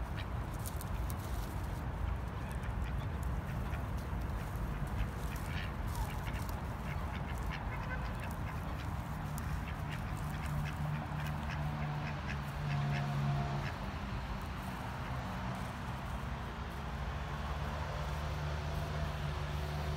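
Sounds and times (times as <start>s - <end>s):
ducks quacking: 0.0s - 19.9s.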